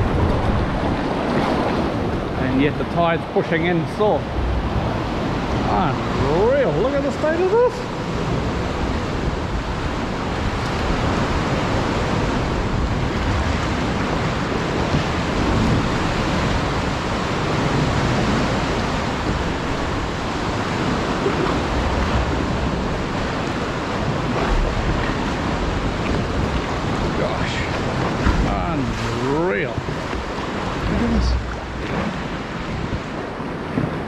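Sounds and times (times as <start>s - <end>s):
sea water rushing: 0.0s - 34.0s
wind buffeting microphone: 0.0s - 34.0s.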